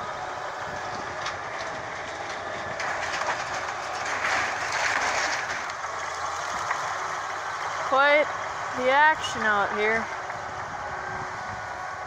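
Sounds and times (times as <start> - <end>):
bulldozer engine running: 0.0 - 12.0.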